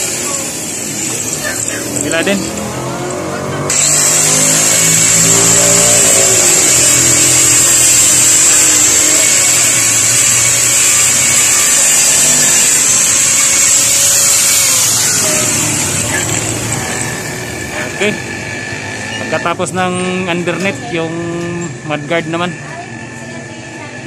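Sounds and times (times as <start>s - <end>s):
angle grinder grinding plastic: 0.0s - 23.9s.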